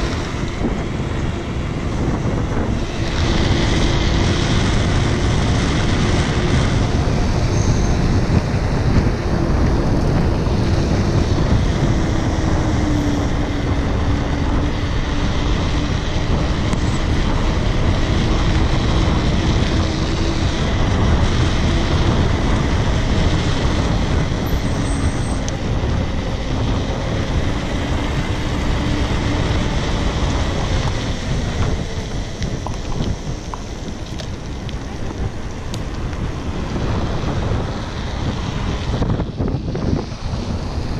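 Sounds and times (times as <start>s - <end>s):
bicycle tyre noise on asphalt: 0.0s - 40.9s
wind on microphone: 0.0s - 40.9s.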